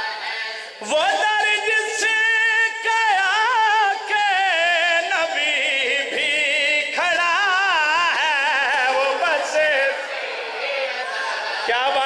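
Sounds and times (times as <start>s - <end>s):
man chanting melismatically: 0.8s - 12.0s.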